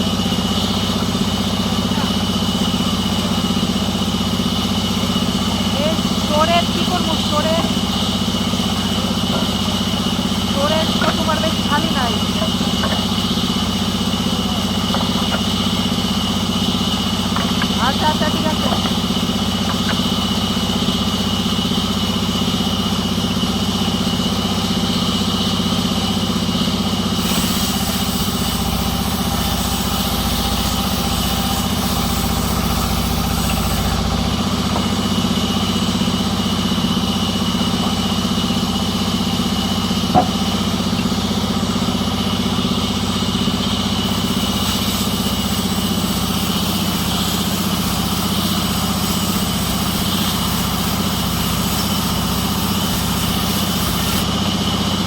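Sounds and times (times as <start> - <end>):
high machine whine: 0.0 - 55.0
sawmill machinery hum: 0.0 - 55.0.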